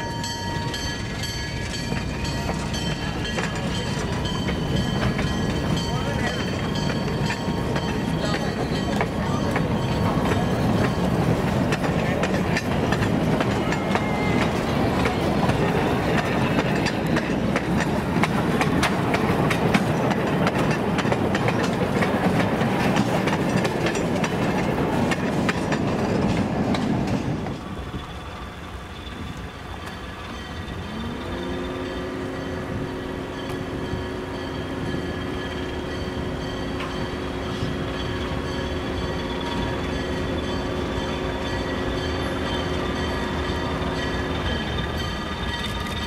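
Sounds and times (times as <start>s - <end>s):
train wheels rumbling: 0.0s - 46.0s
wheels clicking over rail joints: 0.0s - 46.0s.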